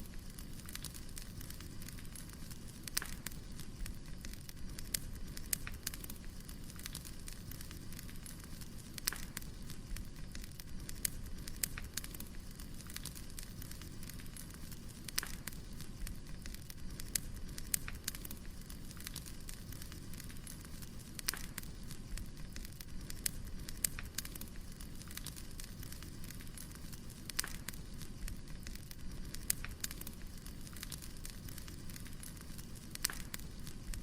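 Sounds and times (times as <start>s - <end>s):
fire low rumble: 0.0s - 34.0s
wood crackling and popping: 0.0s - 34.0s.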